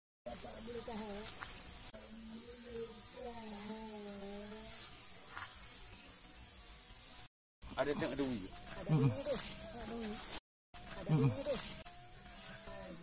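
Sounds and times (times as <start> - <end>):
steady high hiss: 0.3 - 13.0.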